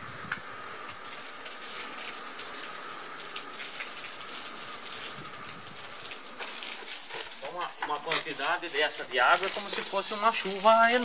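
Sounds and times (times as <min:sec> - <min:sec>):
hose water pattering on metal roof: 0:00.0 - 0:11.0.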